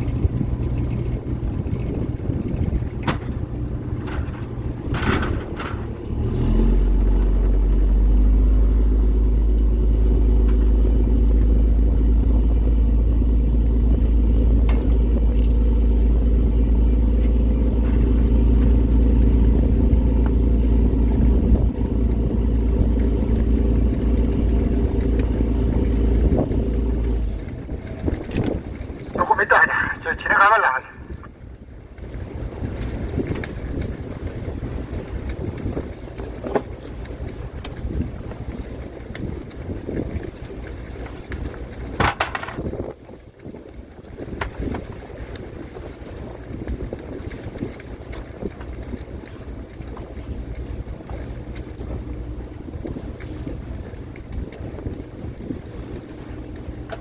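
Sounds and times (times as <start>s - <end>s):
boat engine rumbling: 0.0s - 57.0s.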